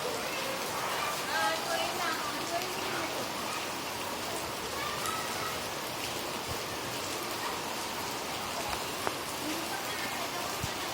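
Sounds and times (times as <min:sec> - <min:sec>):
steady rain pattering: 0:00.0 - 0:10.9.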